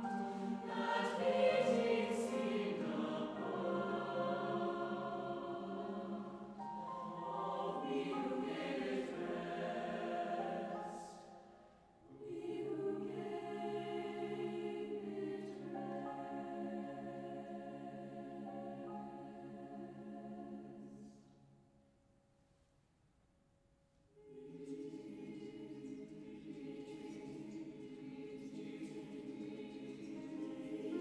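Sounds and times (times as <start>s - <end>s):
mixed choir singing chords: 0.0s - 21.4s, 24.2s - 31.0s.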